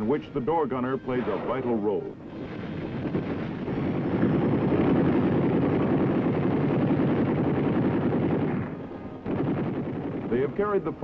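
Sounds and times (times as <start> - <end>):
helicopter rotor and turbine: 1.9 - 11.0.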